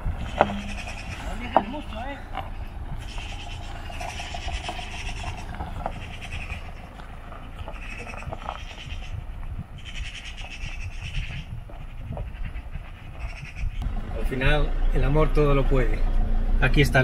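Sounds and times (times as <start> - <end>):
animal crying: 0.0 - 13.8
low rumble: 0.0 - 17.0.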